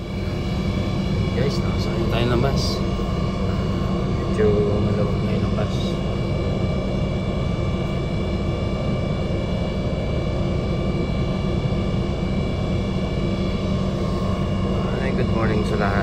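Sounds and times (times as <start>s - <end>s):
high whine: 0.0s - 16.0s.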